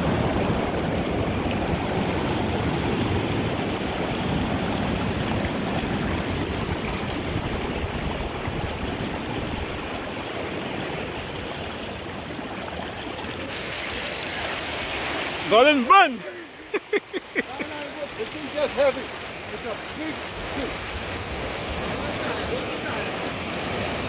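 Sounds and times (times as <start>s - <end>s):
surf washing over rocks: 0.0s - 24.0s.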